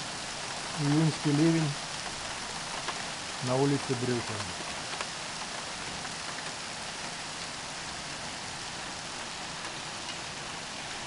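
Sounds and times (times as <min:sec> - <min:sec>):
heavy rain on street: 0:00.0 - 0:11.0.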